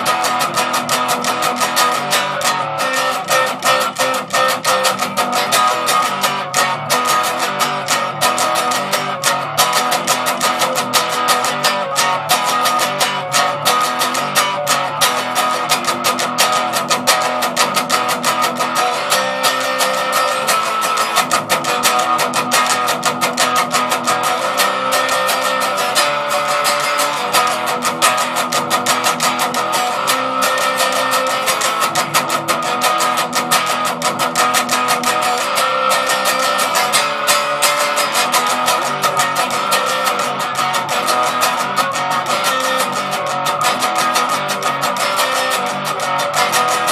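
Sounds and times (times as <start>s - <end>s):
distorted electric guitar riffs: 0.0s - 46.9s.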